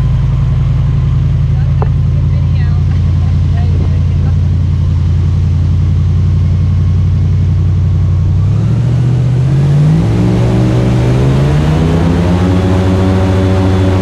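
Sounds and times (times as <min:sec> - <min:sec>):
airboat engine and propeller: 0:00.0 - 0:14.0.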